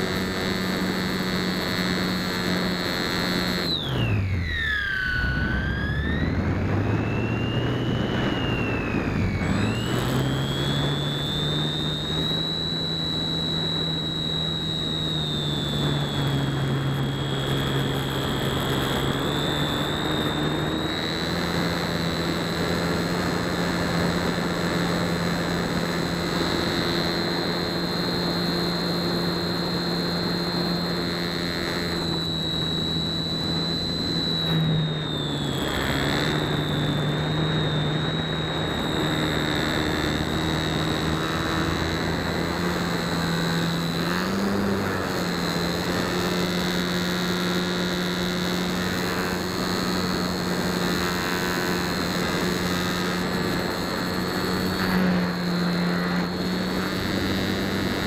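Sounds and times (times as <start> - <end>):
electric motor and propeller whine: 0.0 - 58.0.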